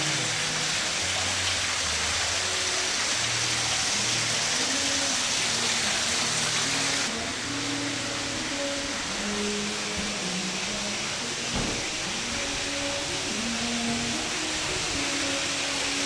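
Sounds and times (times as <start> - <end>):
rushing water: 0.0 - 16.0
soft music with low notes: 0.0 - 16.0.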